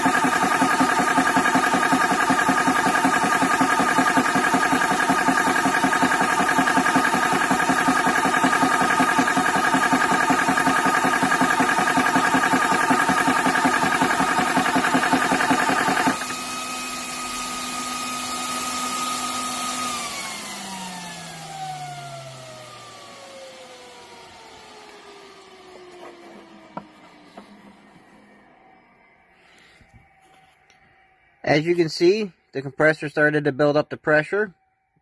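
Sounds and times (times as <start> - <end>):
motor hum winding down: 0.0 - 31.4
air compressor pulsing drone: 0.0 - 32.2.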